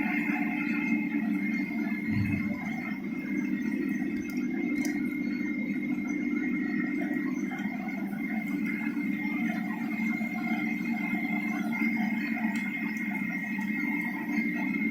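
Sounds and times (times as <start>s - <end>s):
high whine: 0.0s - 14.9s
machinery low hum: 0.0s - 14.9s.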